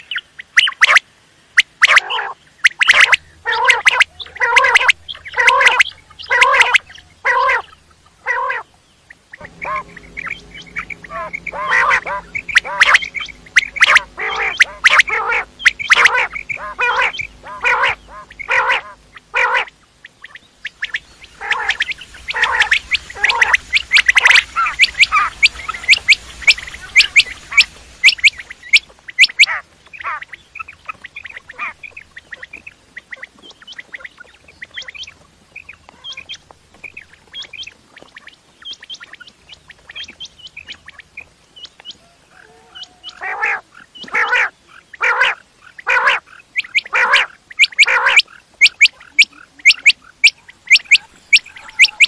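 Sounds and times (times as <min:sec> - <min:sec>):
quail calling: 0:00.0 - 0:01.0, 0:01.6 - 0:52.0.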